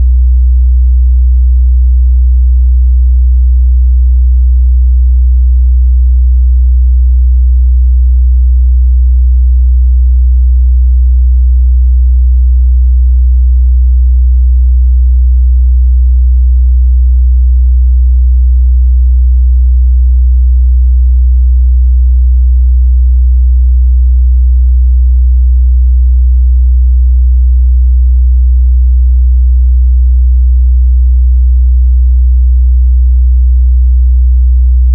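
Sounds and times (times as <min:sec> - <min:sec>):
low sine-wave test tone: 0:00.0 - 0:34.9.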